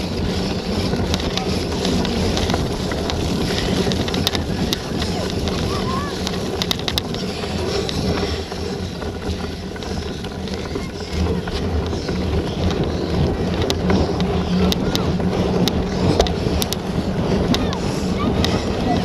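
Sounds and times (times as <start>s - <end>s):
bicycle tyres rolling: 0.0s - 19.0s
bike drivetrain ticks: 0.0s - 19.0s
wind buffeting microphone: 0.0s - 19.0s.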